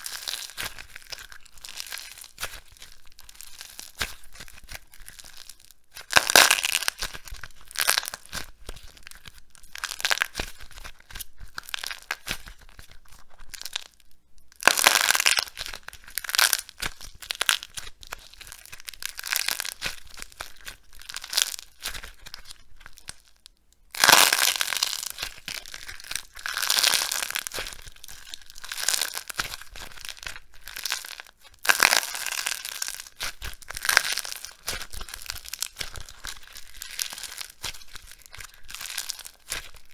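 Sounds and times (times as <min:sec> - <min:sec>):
dry soap crunching: 0:00.0 - 0:39.9.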